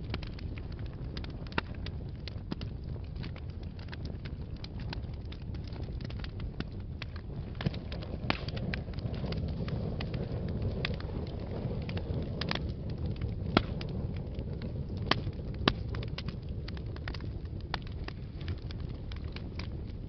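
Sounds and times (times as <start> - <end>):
fire flames rumbling: 0.0 - 20.0
wood fire crackles and pops: 0.0 - 20.0.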